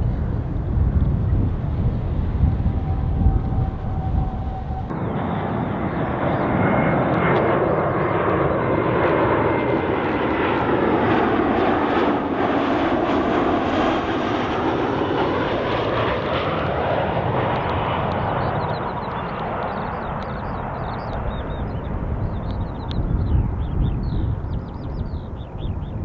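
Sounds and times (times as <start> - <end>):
high jet engine whine: 0.0 - 26.0
jet airliner roar: 0.0 - 26.0.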